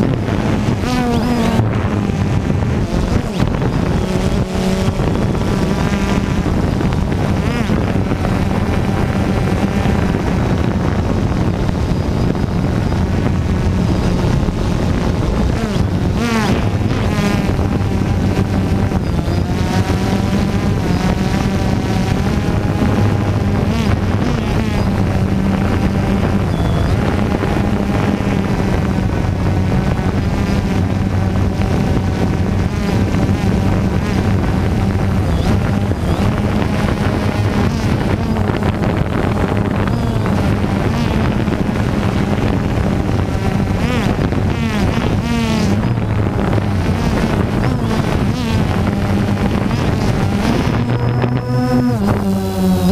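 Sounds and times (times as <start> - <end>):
drone propellers buzzing: 0.0 - 52.9
wind noise on microphone: 0.0 - 52.9.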